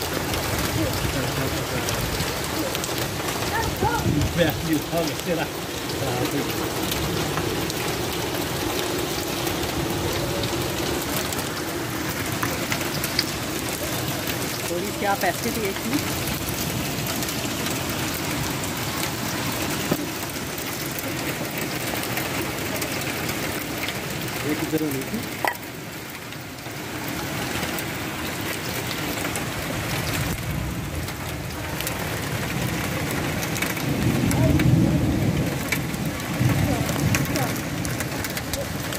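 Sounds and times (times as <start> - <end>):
heavy rain hiss: 0.0 - 38.9
raindrops ticking on roof sheets: 0.0 - 38.9.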